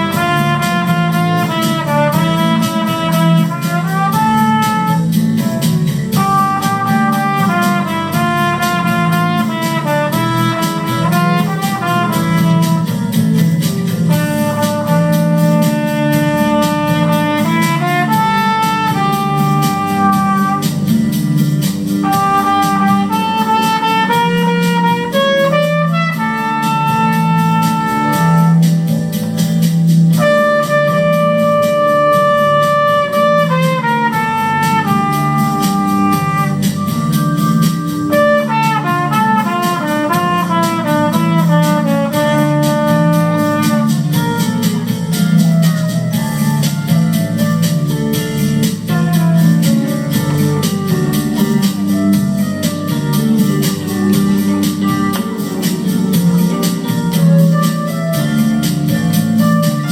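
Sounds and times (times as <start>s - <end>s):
instrumental melody: 0.0s - 59.9s
pulsing low accompaniment: 0.0s - 59.9s.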